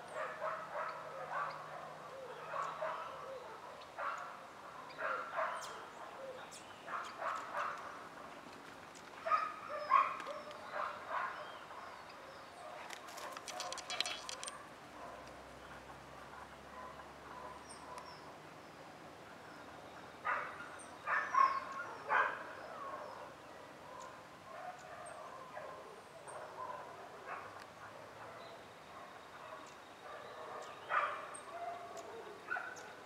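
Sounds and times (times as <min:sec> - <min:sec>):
faint outdoor background noise: 0:00.0 - 0:33.0
small birds chirping: 0:00.0 - 0:33.0.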